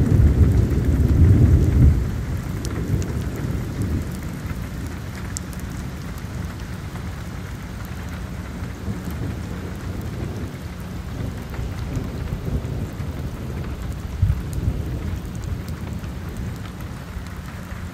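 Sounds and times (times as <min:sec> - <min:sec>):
heavy rain on wet pavement: 0:00.0 - 0:17.9
low rumble of thunder: 0:00.0 - 0:17.9.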